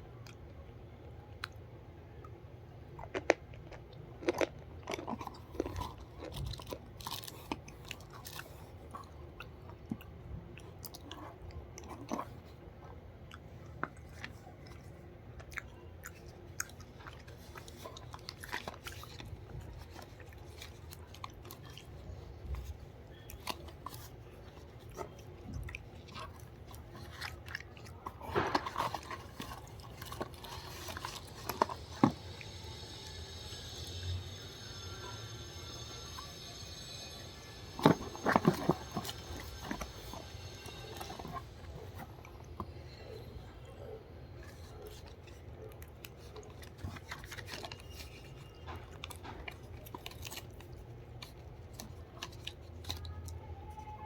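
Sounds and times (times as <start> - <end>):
person chewing crunchy food: 2.7 - 54.0.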